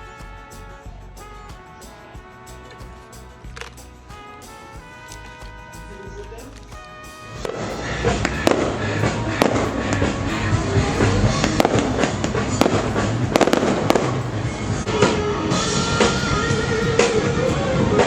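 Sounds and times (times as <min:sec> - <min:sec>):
fireworks crackling and popping: 0:00.0 - 0:18.0
music: 0:00.0 - 0:18.0.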